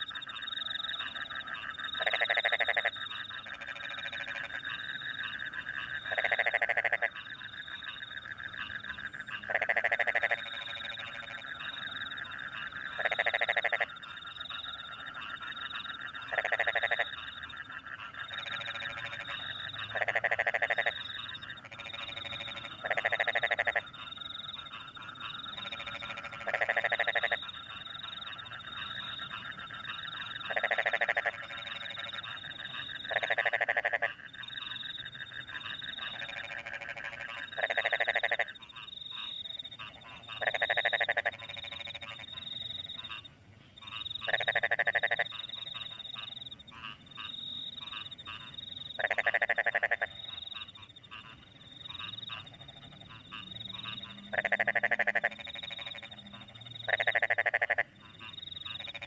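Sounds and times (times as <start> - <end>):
crickets chirping: 0.0 - 59.0
frog chorus: 0.0 - 59.0
loud low frog croak: 0.0 - 59.0.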